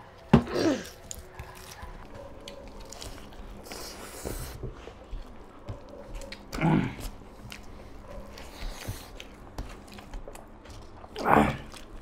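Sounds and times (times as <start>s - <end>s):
chewing and crunching: 0.5s - 12.0s.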